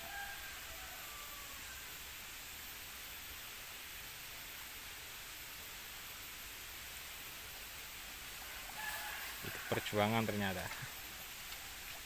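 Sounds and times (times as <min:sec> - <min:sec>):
faint high whine: 0:00.0 - 0:12.0
outdoor background hiss: 0:00.0 - 0:12.0.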